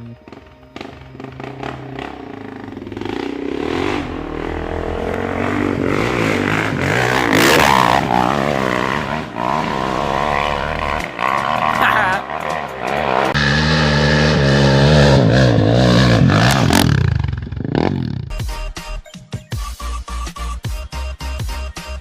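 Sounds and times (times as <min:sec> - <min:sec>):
dirt bike engine revving: 0:00.0 - 0:18.5.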